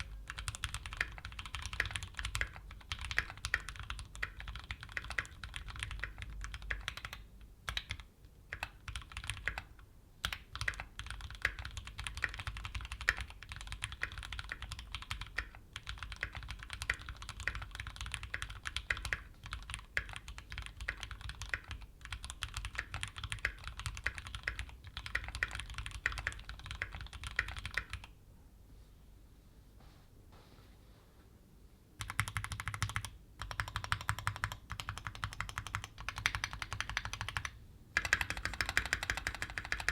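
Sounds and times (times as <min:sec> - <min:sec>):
fast mechanical keyboard typing: 0:00.0 - 0:28.1, 0:32.0 - 0:39.9.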